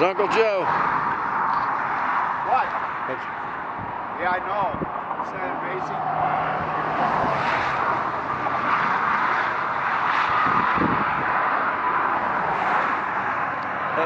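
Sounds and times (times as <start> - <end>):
traffic rushing by: 0.0 - 14.0.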